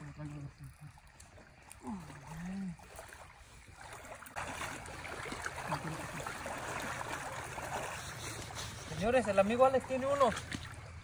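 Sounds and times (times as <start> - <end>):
people wading through river water: 0.0 - 11.0.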